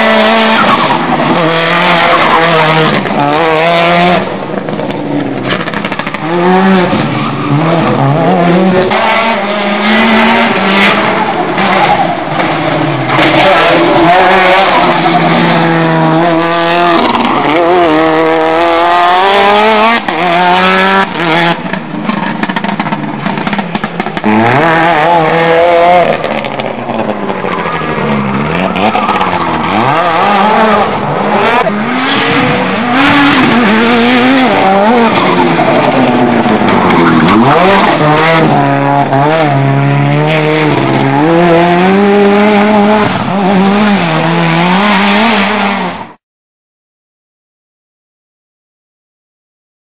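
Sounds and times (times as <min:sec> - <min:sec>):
car engine revving: 0:00.0 - 0:46.2.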